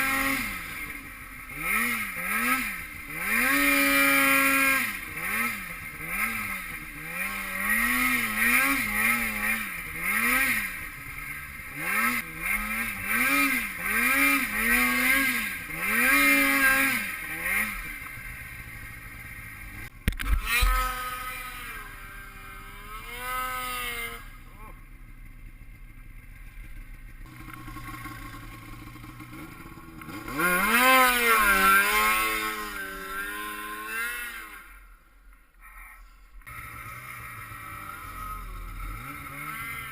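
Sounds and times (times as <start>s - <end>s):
snowmobile engine revving: 0.0s - 25.7s, 26.4s - 39.9s.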